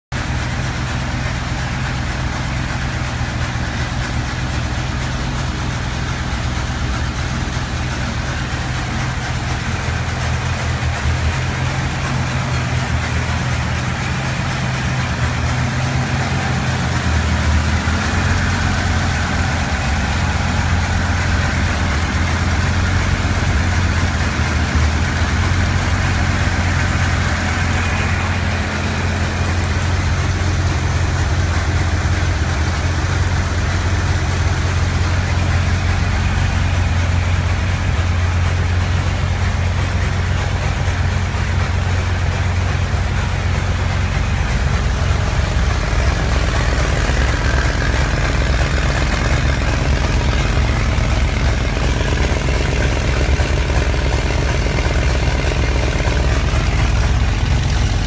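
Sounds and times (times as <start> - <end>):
car engine idling: 0.1 - 58.0.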